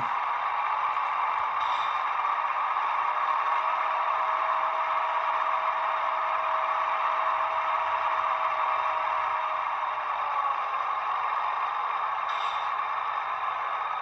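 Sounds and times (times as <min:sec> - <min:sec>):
model diesel engine drone: 0:00.0 - 0:14.0.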